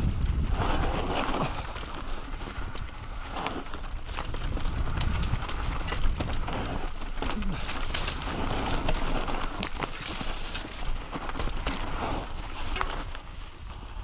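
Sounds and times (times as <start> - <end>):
bike chain and frame rattling: 0.0 - 13.7
bike tyres on dirt and rock: 0.0 - 14.0
wind rumble on microphone: 0.0 - 14.0.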